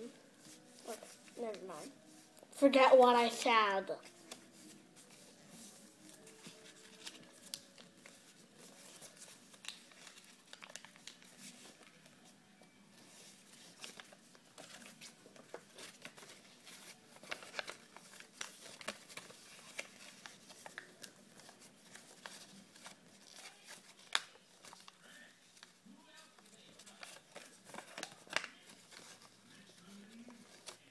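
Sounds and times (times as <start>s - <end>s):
paper crinkling and rustling: 0.0s - 30.9s.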